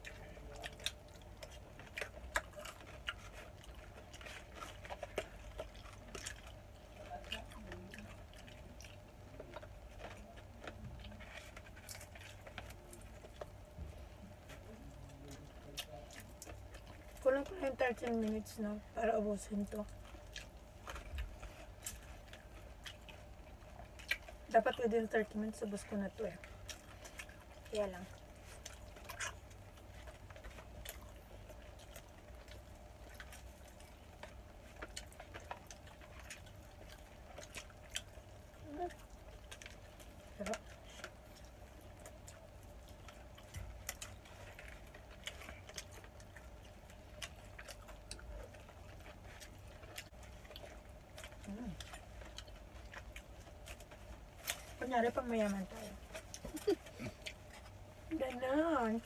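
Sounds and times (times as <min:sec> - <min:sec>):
person chewing: 0:00.0 - 0:18.4, 0:19.6 - 0:24.6, 0:26.2 - 0:58.1
faint steady hum: 0:00.0 - 0:59.0.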